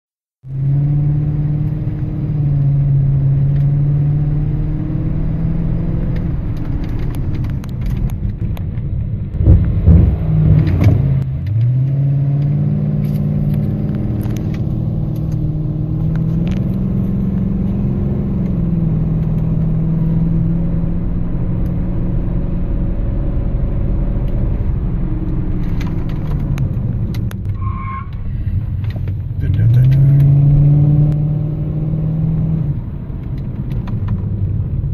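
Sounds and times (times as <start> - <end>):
car engine rumbling: 0.4 - 34.9.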